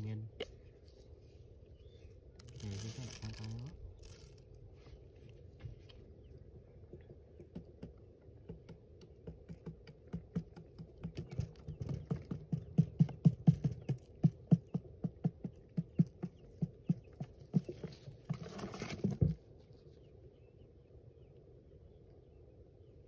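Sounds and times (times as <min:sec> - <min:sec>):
bird pecking on hard dirt: 0:00.0 - 0:20.1.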